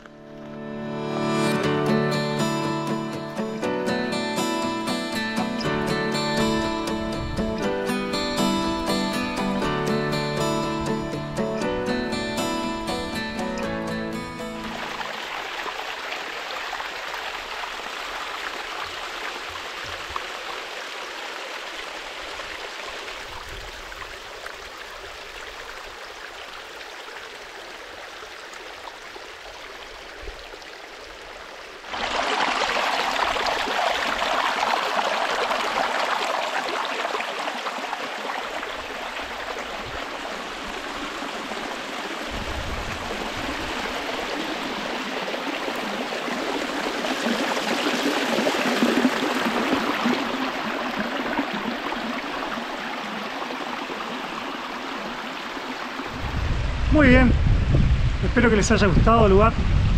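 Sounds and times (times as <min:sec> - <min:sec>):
creek water rushing over rocks: 0:01.4 - 0:57.1.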